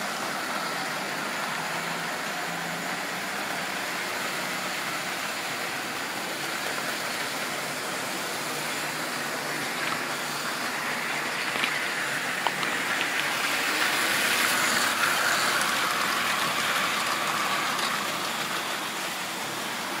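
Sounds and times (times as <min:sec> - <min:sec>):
model train wheels rattling: 0:03.6 - 0:20.0.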